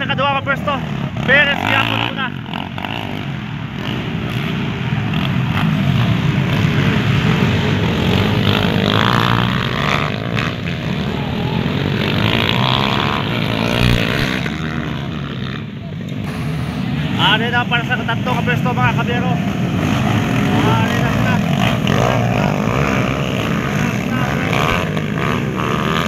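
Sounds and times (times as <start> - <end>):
dirt bike engines racing past: 0.0 - 26.0.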